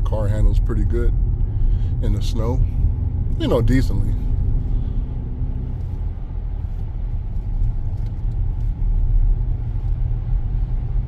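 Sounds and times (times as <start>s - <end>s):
car engine: 0.0s - 11.0s
tyre and road noise: 0.0s - 11.0s.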